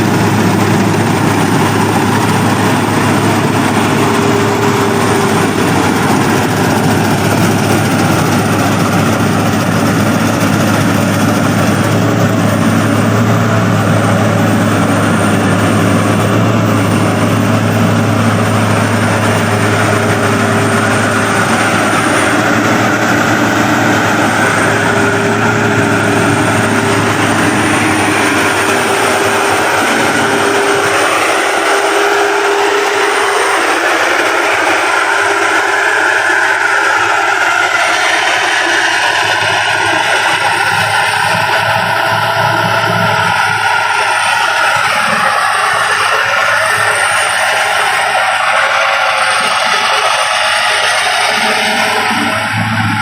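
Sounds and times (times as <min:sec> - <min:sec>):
combine harvester engine running: 0:00.0 - 0:53.0.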